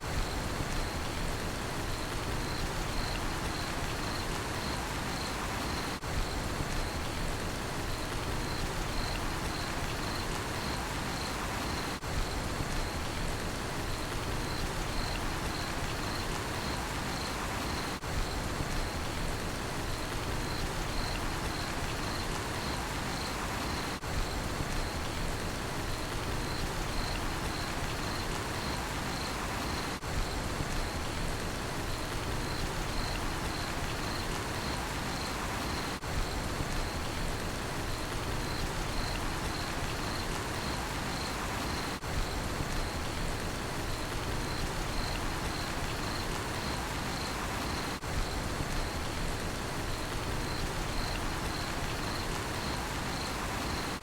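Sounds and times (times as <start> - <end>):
steady rain falling: 0.0 - 54.0
cricket chirping: 1.8 - 7.2, 7.8 - 13.2, 13.8 - 19.2, 19.8 - 25.2, 25.9 - 31.2, 31.8 - 54.0.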